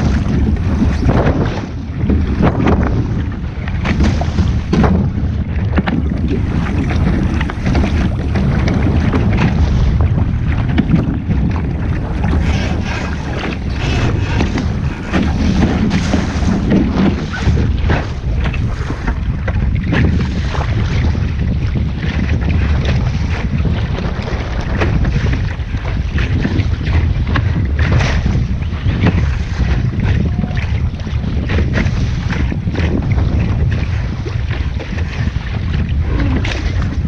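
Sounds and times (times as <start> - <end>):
water noise: 0.0 - 37.0
wind buffeting microphone: 0.0 - 37.0.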